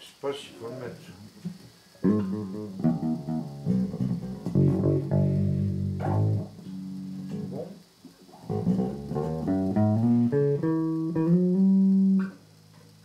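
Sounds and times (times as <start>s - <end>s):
electric bass guitar plucked notes: 2.0s - 13.0s.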